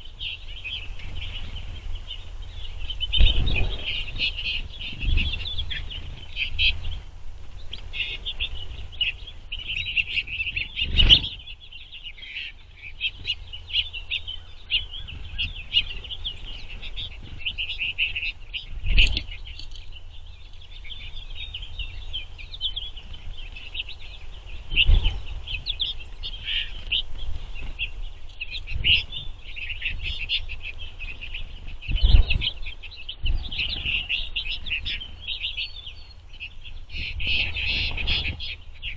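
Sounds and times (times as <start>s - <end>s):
finches twittering: 0.0s - 38.9s.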